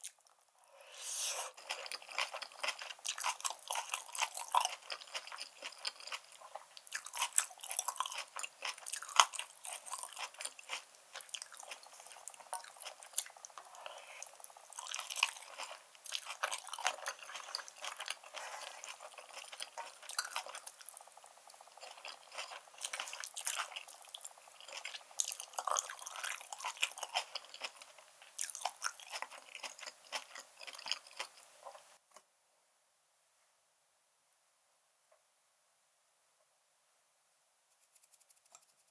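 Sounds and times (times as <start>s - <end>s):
person chewing crunchy food: 0.0s - 32.0s.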